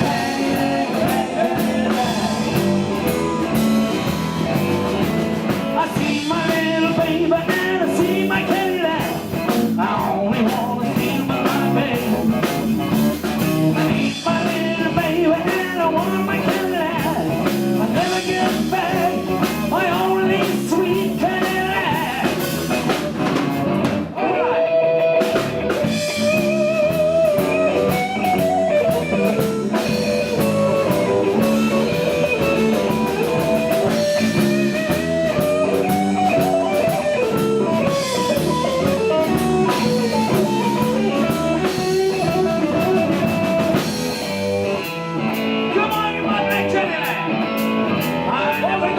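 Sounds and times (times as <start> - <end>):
drum kit: 0.0 - 48.9
electric guitar: 0.0 - 48.9.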